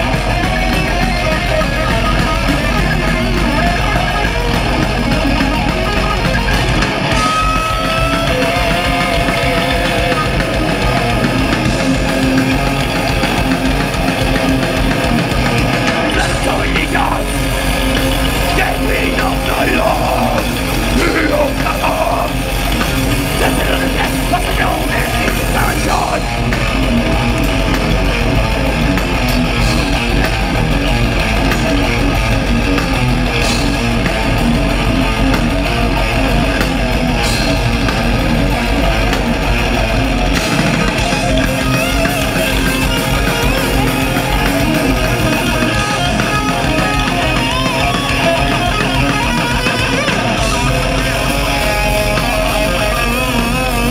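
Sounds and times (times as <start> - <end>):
thrash metal band playing: 0.0 - 53.9.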